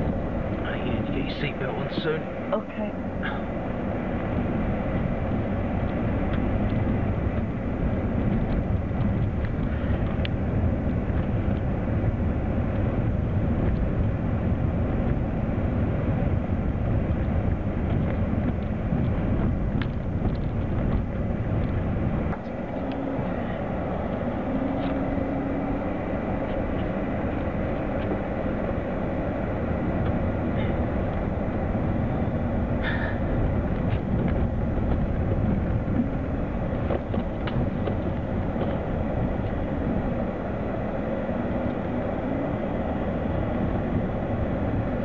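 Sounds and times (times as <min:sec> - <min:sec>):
vehicle engine and tyres rumbling: 0:00.0 - 0:45.0.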